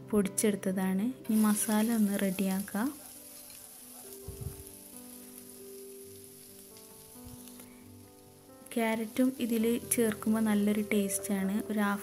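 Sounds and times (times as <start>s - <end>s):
onions sizzling in a frying pan: 1.3s - 12.0s.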